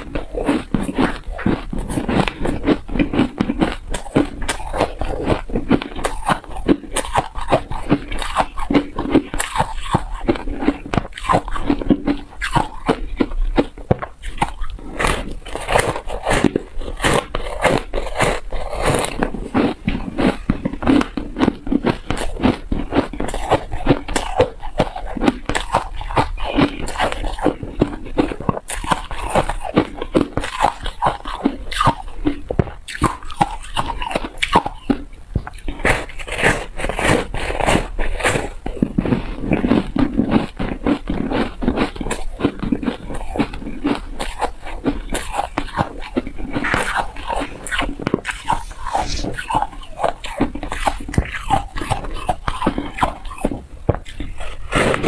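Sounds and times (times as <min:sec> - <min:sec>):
ice crunching between teeth: 0:00.0 - 0:55.0.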